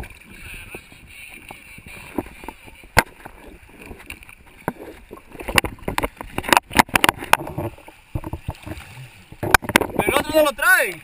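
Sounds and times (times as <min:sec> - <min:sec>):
sea water sloshing and slapping: 0:00.0 - 0:11.0
sharp splashes and knocks: 0:02.0 - 0:11.0.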